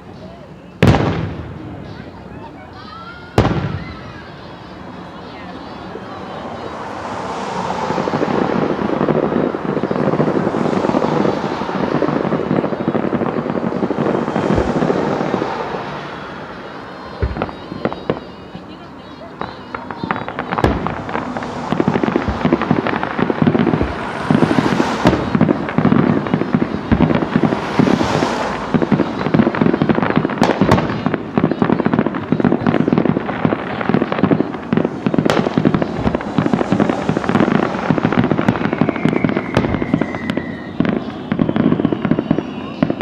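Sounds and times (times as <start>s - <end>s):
firework whistle: 0.0s - 43.0s
fireworks bangs and crackling: 0.0s - 43.0s.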